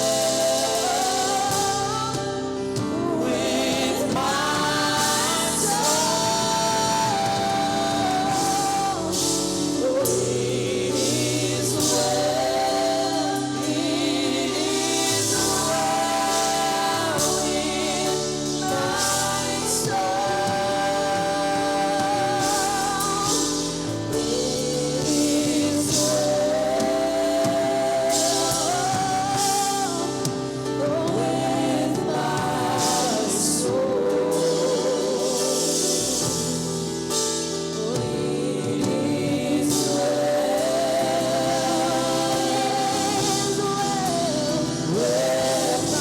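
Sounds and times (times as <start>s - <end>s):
group singing gospel: 0.0s - 46.0s
instrumental accompaniment: 0.0s - 46.0s.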